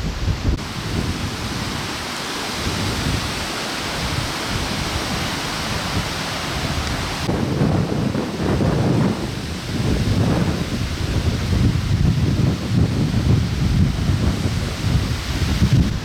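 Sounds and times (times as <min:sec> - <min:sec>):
storm water rushing: 0:00.0 - 0:16.0
wind buffeting microphone: 0:00.0 - 0:16.0.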